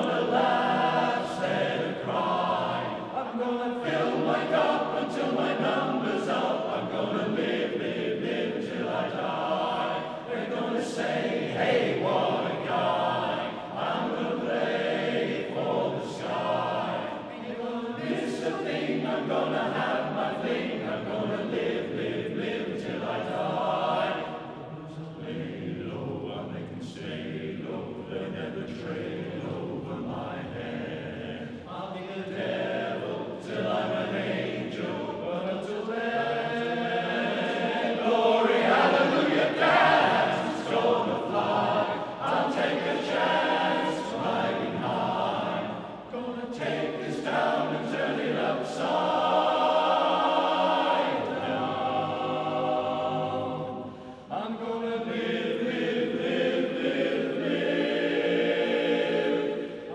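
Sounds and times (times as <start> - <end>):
men's chorus singing a cappella: 0.0 - 59.9.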